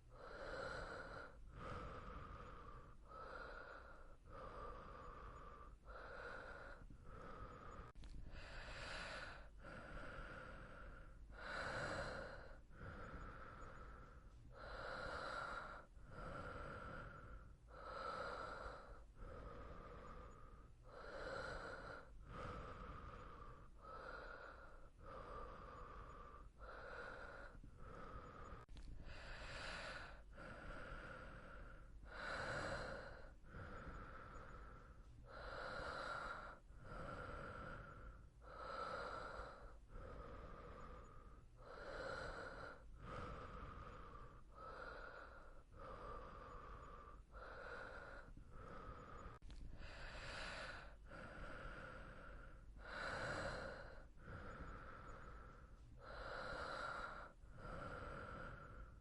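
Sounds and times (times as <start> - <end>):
soft steady breathing: 0.0 - 59.0.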